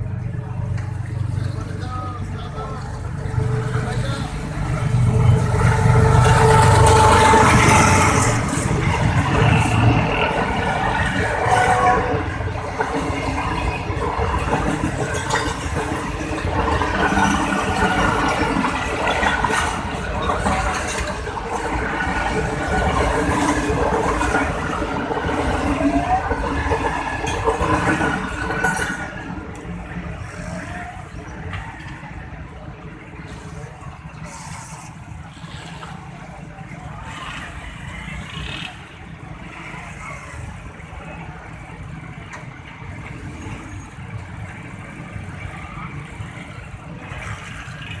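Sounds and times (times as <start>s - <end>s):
road traffic: 0.0s - 48.0s
voices: 0.0s - 48.0s.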